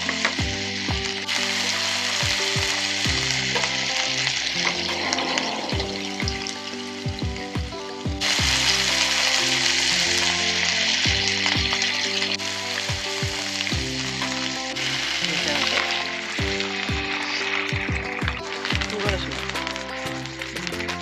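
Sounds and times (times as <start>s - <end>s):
background music with a beat: 0.0s - 21.0s
food sizzling in a pan: 0.0s - 21.0s.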